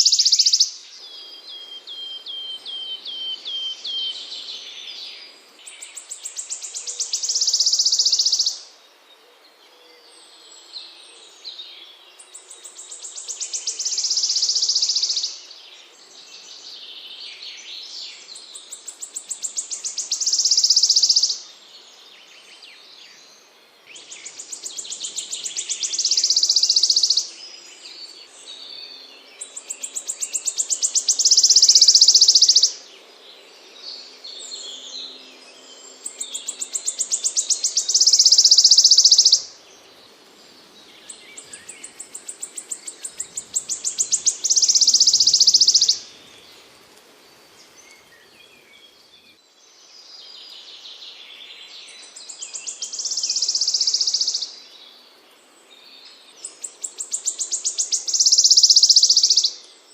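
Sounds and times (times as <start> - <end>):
songbird singing high trill: 0.0 - 8.8, 10.0 - 46.8, 47.6 - 59.9.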